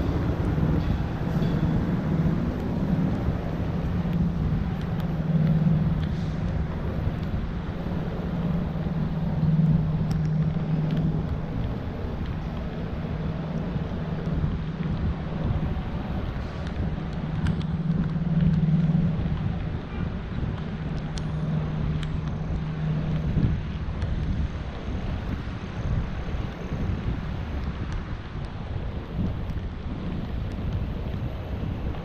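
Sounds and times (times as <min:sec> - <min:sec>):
road traffic engine hum: 0:00.0 - 0:32.0.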